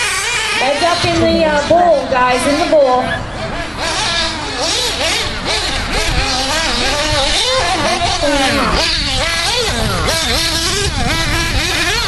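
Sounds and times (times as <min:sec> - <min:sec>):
rc buggy motors buzzing: 0:00.0 - 0:12.0.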